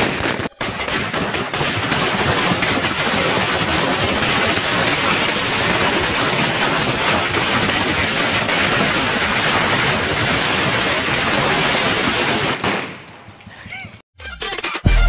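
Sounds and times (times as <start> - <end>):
firecrackers exploding: 0.0 - 13.1.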